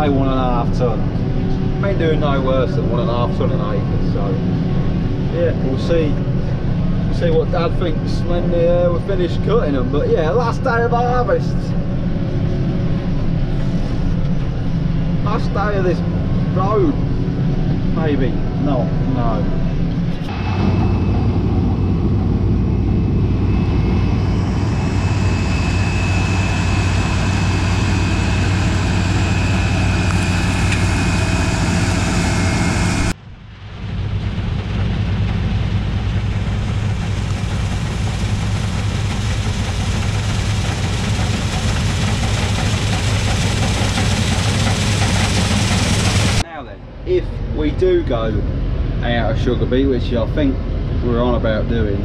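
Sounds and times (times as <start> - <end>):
combine harvester running: 0.0 - 51.8.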